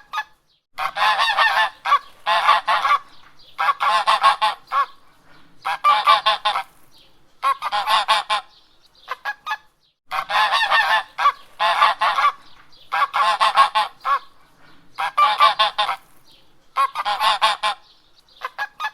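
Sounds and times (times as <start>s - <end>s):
geese honking: 0.1s - 5.0s, 5.6s - 6.7s, 7.4s - 14.4s, 15.0s - 16.1s, 16.8s - 18.9s.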